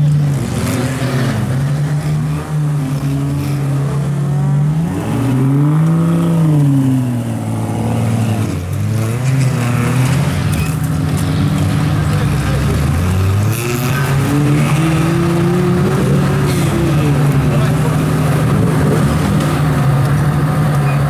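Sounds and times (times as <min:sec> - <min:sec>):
off-road engines revving: 0:00.0 - 0:21.0.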